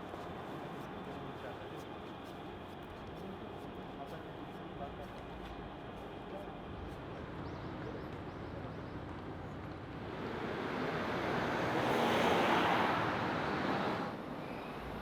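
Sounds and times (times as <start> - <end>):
city street noise: 0.0 - 15.0.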